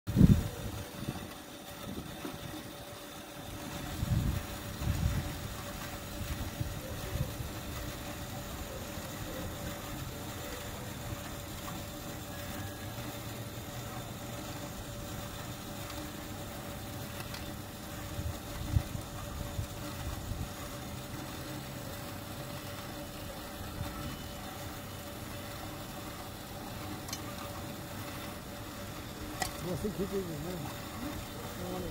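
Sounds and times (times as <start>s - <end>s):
faint constant tone: 0.1s - 31.9s
steady mechanical hum: 0.1s - 31.9s.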